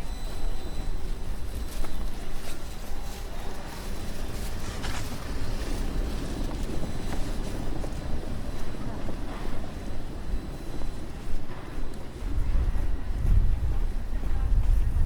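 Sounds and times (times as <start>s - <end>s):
outdoor ambience: 0.0s - 15.0s
wind buffeting microphone: 0.0s - 15.0s.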